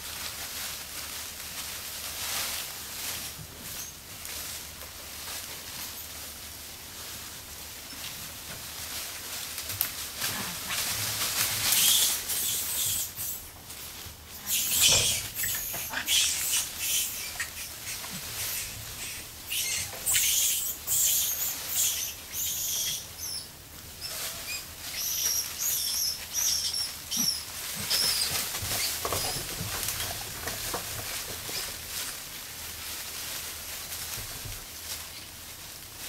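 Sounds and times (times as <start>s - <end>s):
rustling dry leaves: 0.0s - 36.0s.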